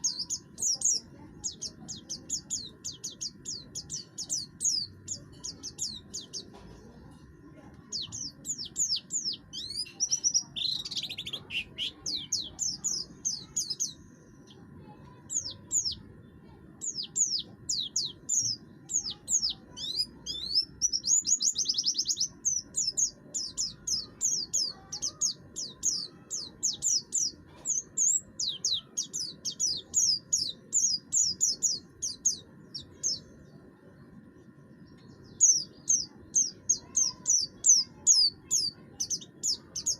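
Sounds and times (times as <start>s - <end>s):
bird singing harsh trilling song: 0.0s - 39.9s.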